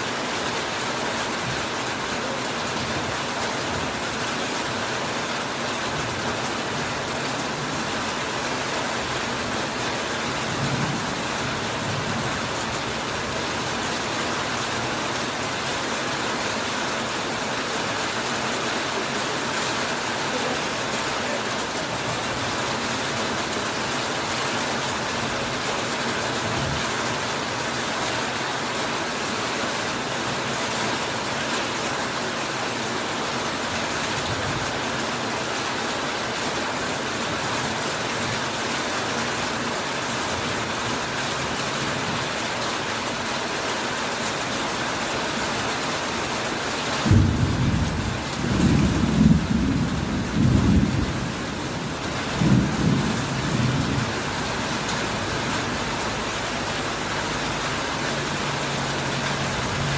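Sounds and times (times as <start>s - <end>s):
heavy rain on metal roof: 0.0s - 59.9s.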